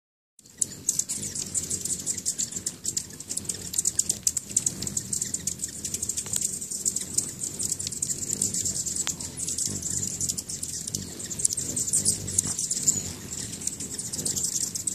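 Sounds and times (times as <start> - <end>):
hummingbirds chipping: 0.4 - 14.9
low steady hum: 0.6 - 14.9.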